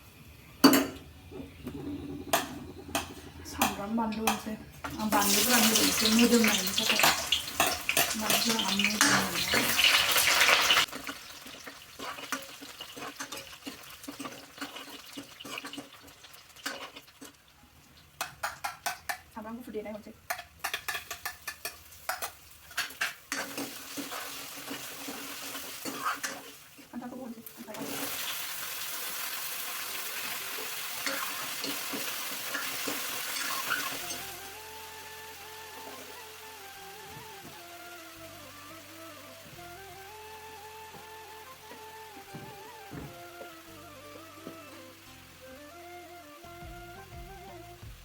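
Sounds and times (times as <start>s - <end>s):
food sizzling in hot oil: 2.0s - 19.1s, 20.6s - 42.8s.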